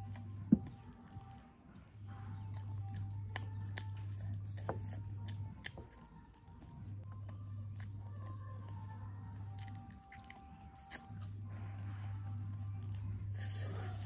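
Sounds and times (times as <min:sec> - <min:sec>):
close-up chewing: 0:00.0 - 0:14.0
low hum: 0:00.0 - 0:14.0.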